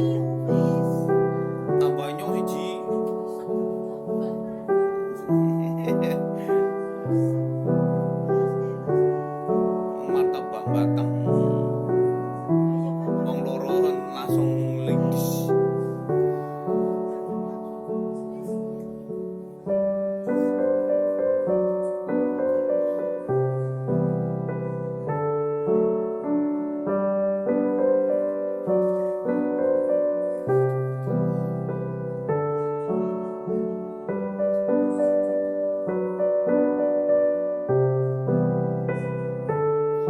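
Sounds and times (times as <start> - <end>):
piano music: 0.0 - 40.0.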